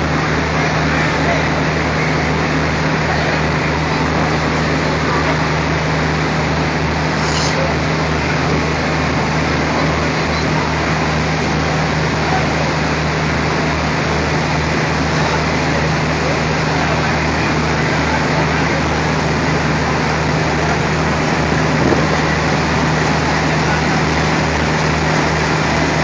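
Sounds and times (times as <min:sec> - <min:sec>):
diesel locomotive engine idling: 0:00.0 - 0:26.0.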